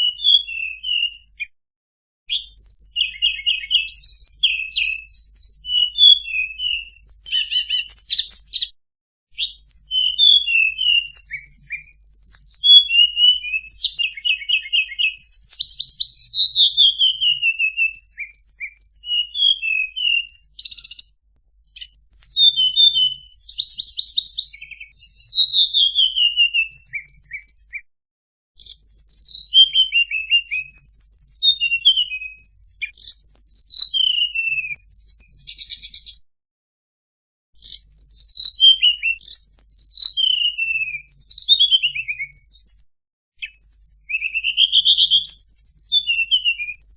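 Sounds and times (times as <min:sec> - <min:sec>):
songbird singing: 0:00.0 - 0:01.5, 0:02.3 - 0:08.7, 0:09.3 - 0:21.1, 0:21.8 - 0:27.8, 0:28.6 - 0:36.2, 0:37.6 - 0:42.8, 0:43.4 - 0:46.9.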